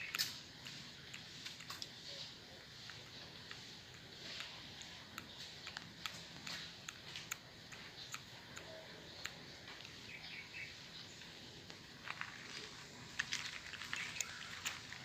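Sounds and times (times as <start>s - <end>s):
light clicks and ticks: 0.0s - 10.1s, 11.2s - 15.0s
background hiss: 0.0s - 15.0s.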